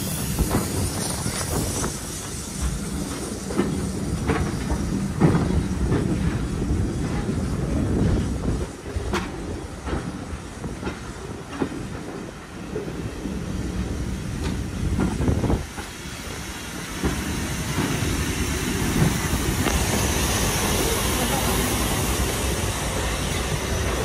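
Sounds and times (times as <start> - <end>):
steam hiss: 0.0 - 24.0
train carriages rumbling: 0.0 - 24.0.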